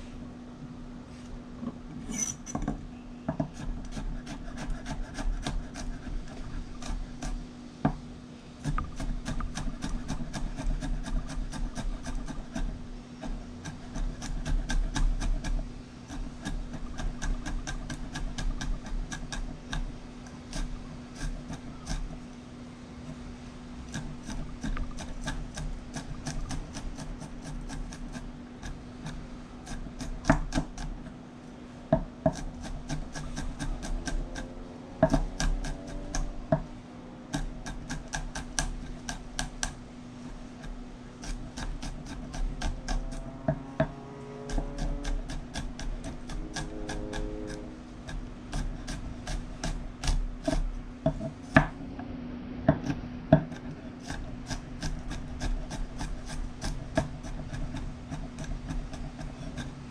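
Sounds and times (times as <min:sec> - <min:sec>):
steady low hum: 0:00.0 - 0:59.9
knife cutting on wooden board: 0:03.4 - 0:07.4, 0:08.6 - 0:22.2, 0:23.9 - 0:31.1, 0:32.0 - 0:36.7, 0:37.3 - 0:51.8, 0:52.7 - 0:59.9.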